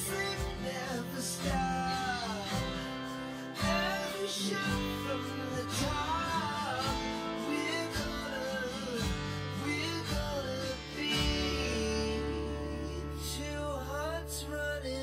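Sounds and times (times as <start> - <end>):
song with guitar and vocals: 0.0 - 15.0.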